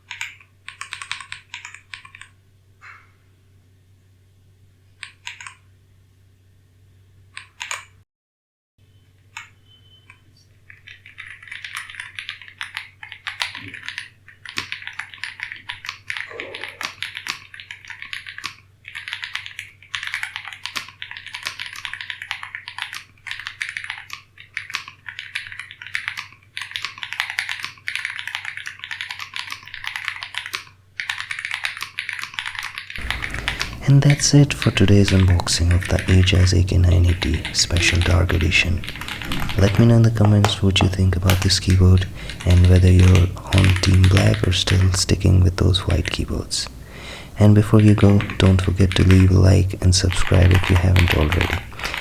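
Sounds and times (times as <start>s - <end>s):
mechanical keyboard typing: 0.1s - 2.3s, 5.0s - 5.6s, 10.8s - 52.0s.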